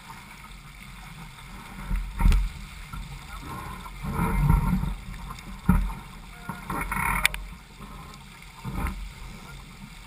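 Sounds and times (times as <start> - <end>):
water slapping boat hull: 0.0 - 10.0.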